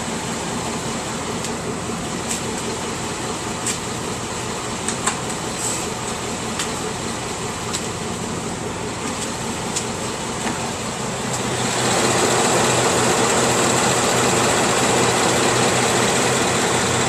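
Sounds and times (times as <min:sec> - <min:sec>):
car engine idling: 0:00.0 - 0:17.0
sharp engine clicks: 0:00.0 - 0:17.0.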